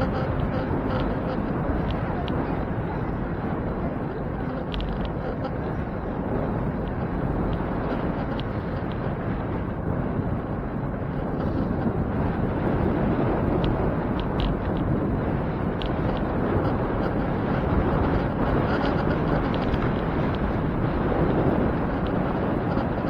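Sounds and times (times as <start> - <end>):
bicycle road noise: 0.0 - 23.0
wind rush: 0.0 - 23.0.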